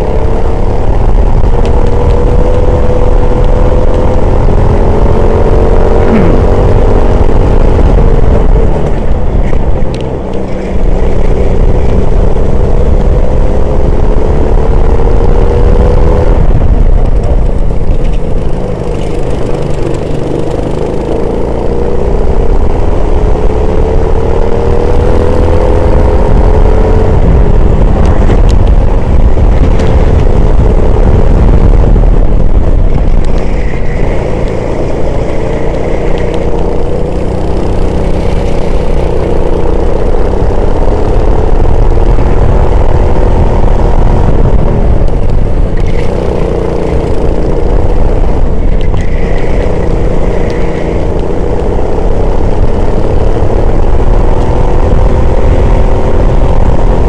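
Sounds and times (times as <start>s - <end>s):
racing engine revving: 0.0s - 57.0s
wind noise on microphone: 0.0s - 57.0s.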